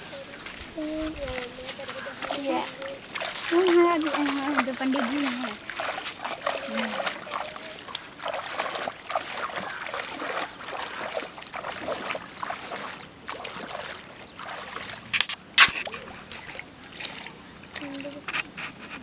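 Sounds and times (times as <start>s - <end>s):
feet splashing through water: 0.0s - 18.9s.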